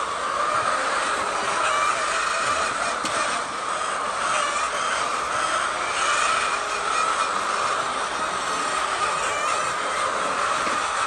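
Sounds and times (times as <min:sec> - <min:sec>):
flock of hens clucking: 0:00.0 - 0:11.0
high-pitched hen calls: 0:00.0 - 0:11.0.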